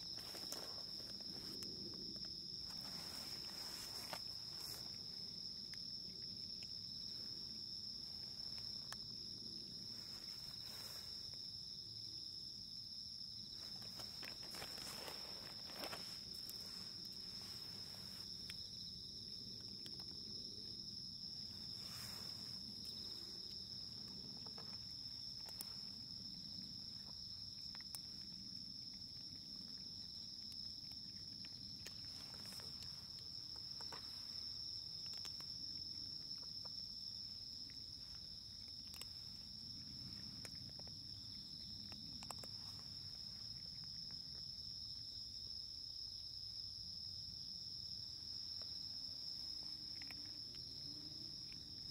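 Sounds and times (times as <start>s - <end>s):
insects trilling: 0.0s - 51.9s.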